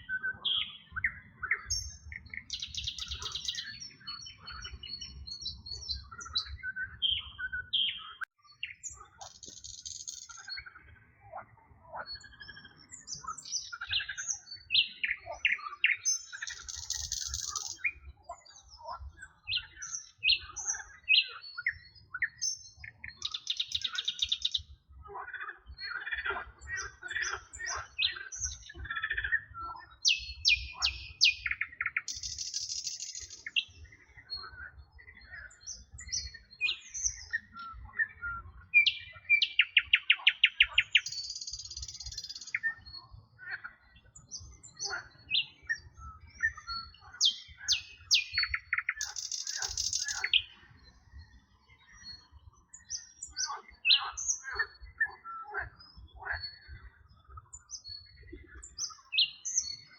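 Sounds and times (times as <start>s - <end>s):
songbirds singing and calling: 0.0s - 59.9s.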